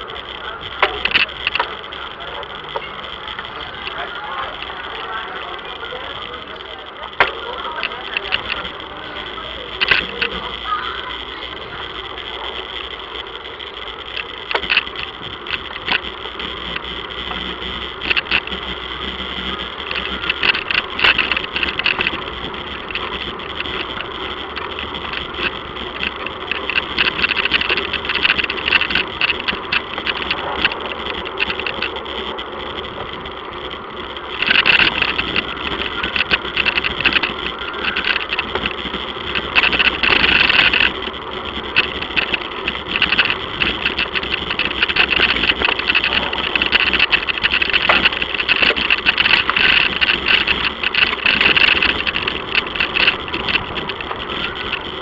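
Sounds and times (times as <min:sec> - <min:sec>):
bicycle rolling over rough paving: 0:00.0 - 0:55.0
bike rattling and clicking: 0:00.0 - 0:55.0.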